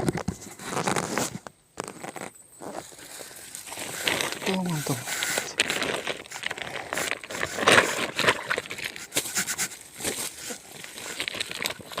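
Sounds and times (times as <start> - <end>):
rustling and crackling: 0.0 - 12.0.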